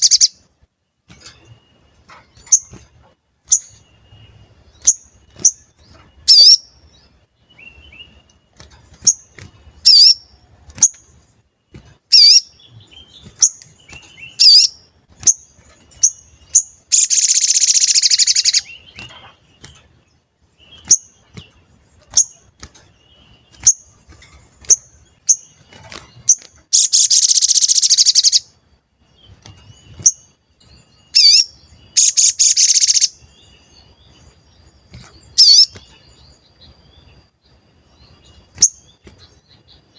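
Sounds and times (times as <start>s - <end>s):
bird rapid trill: 0.0s - 0.5s, 1.1s - 39.9s
songbird chirping: 0.0s - 39.9s.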